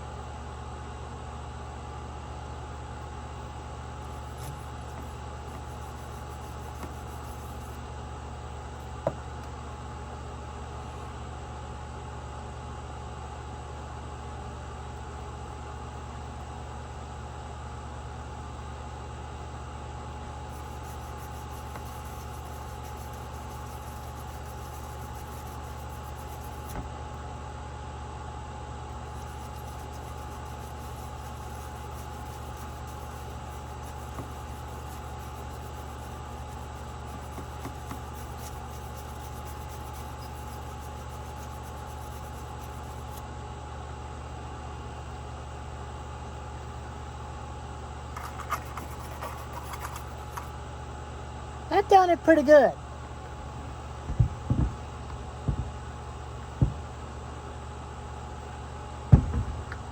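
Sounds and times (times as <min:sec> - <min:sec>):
mechanical hum with high whine: 0:00.0 - 0:59.9.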